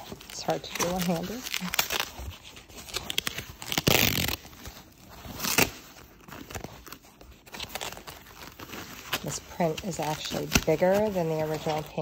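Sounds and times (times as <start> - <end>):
foam and plastic wrap crinkling: 0.0 - 12.0
packing material ripping: 0.0 - 12.0.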